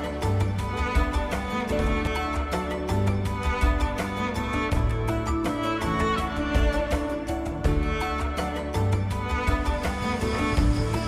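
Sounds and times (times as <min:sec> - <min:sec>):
string melody over steady beat: 0:00.0 - 0:11.0.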